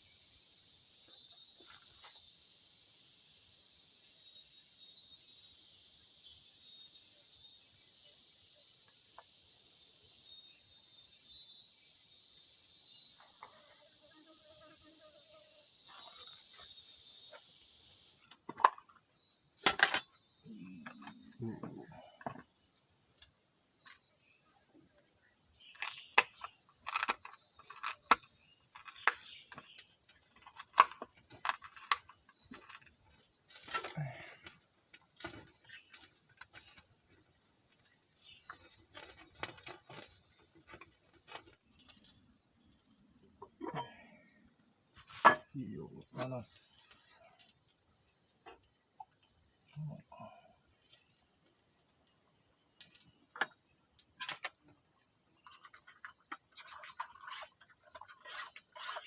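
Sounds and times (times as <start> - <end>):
insects chirring drone: 0.0 - 59.0.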